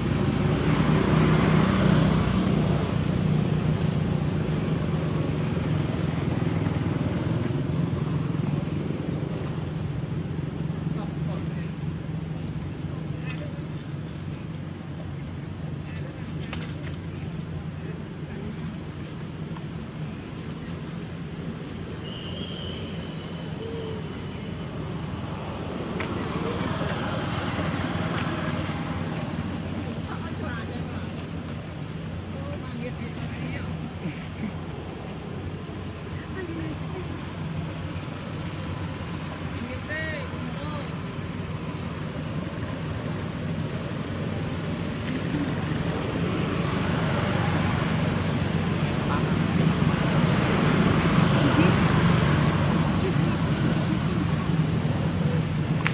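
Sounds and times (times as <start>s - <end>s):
high-pitched hiss: 0.0s - 55.9s
insects droning: 0.0s - 55.9s.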